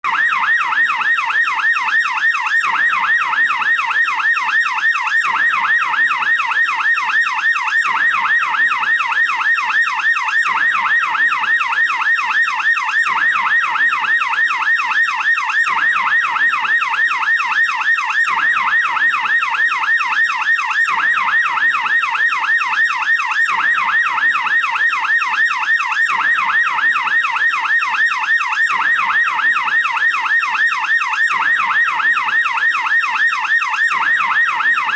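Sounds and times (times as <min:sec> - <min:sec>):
police car yelp siren: 0:00.0 - 0:34.9.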